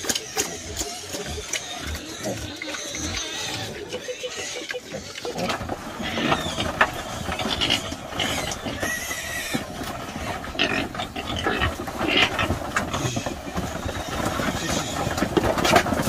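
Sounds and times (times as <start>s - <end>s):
pigs grunting: 0.0s - 16.0s
pigs squealing: 0.0s - 16.0s.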